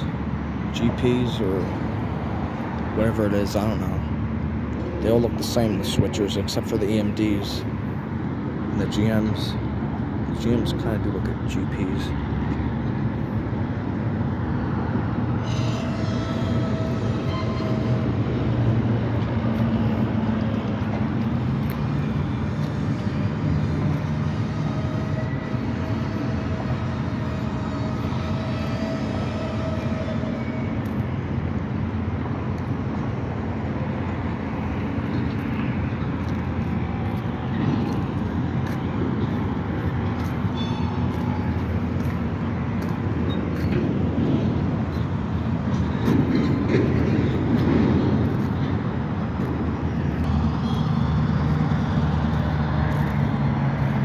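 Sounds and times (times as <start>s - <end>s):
diesel locomotives rumbling: 0.0s - 54.0s
freight cars rolling: 0.0s - 54.0s.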